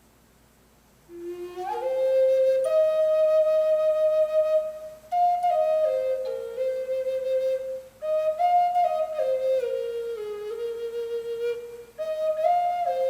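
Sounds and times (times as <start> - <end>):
flute playing slow melody: 1.1 - 13.0.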